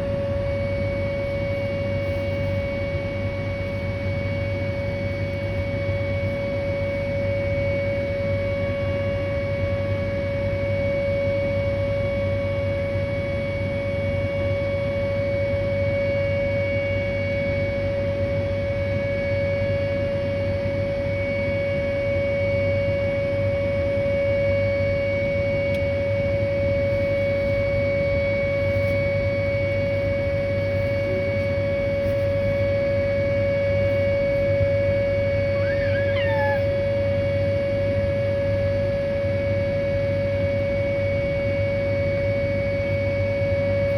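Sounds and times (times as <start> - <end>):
outdoor warning siren steady tone: 0.0 - 43.9.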